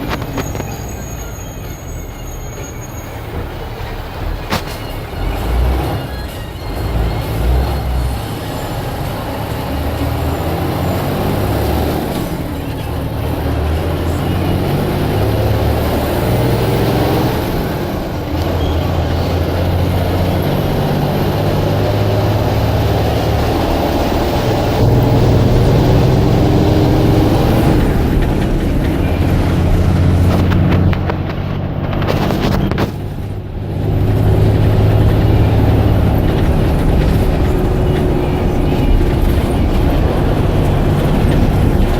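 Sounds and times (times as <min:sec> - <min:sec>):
bus diesel engine accelerating: 0:00.0 - 0:41.9.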